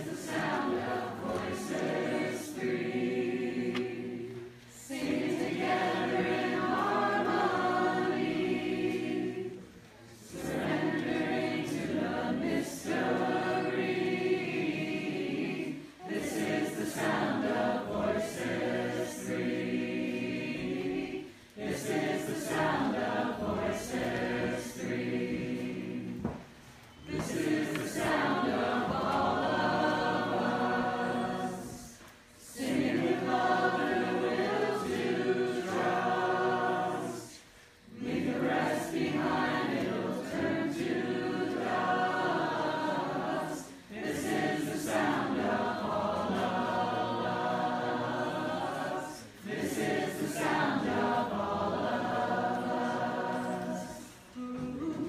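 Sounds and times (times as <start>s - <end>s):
crowd singing unaccompanied: 0.0s - 55.0s.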